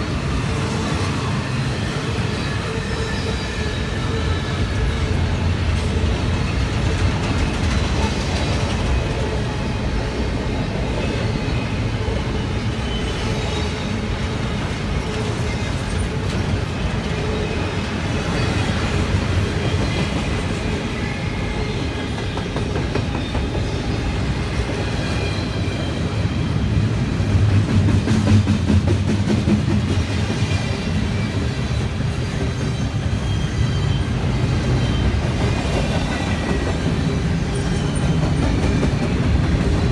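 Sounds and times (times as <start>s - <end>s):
train wheels rumbling on rail: 0.0s - 39.9s
high wheel squeals: 0.3s - 27.0s, 30.5s - 39.8s.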